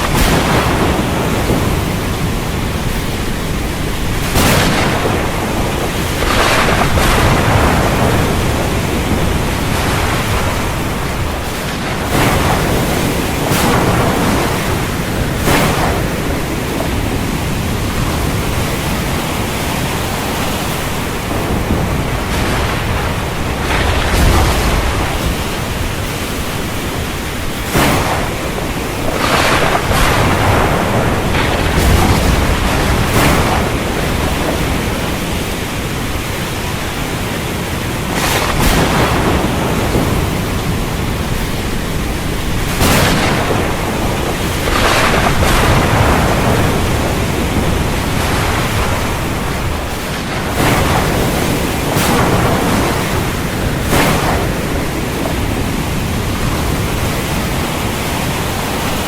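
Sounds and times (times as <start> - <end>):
heavy surf: 0.0 - 59.0
waves breaking: 0.0 - 59.0
wind: 0.0 - 59.0.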